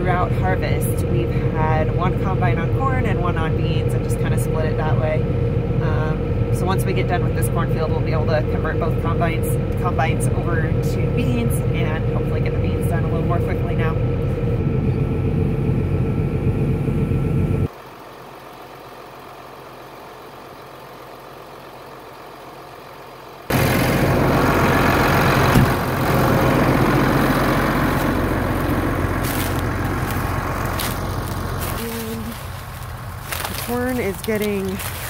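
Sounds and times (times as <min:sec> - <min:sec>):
combine engine running: 0:00.0 - 0:35.0
tractor engine running: 0:00.0 - 0:35.0.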